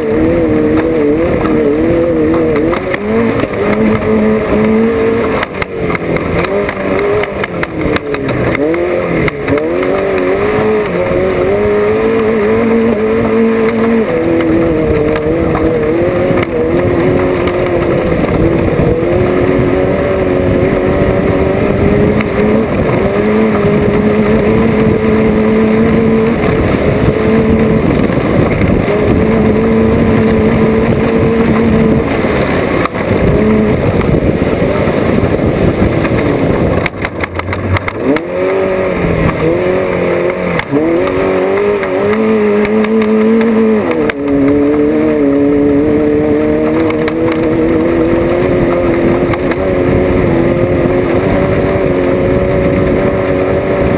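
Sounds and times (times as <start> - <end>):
race car engine running hard: 0.0 - 53.9.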